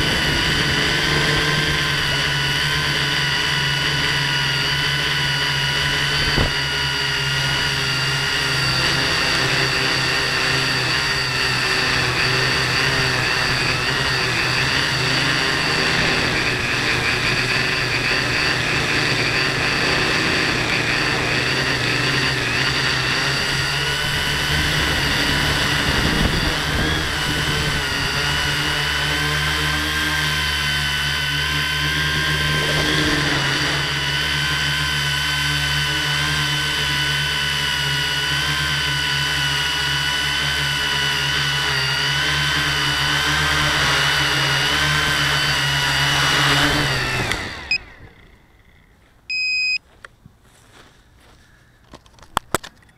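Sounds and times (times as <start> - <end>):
drone motors whining: 0.0 - 49.8.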